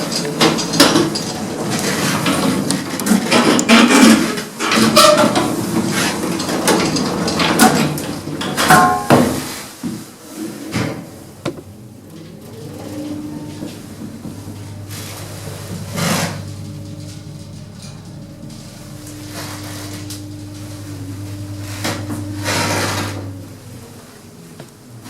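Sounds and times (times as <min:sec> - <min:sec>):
lift doors and machinery clanking: 0:00.0 - 0:25.0
lift humming: 0:00.0 - 0:25.0.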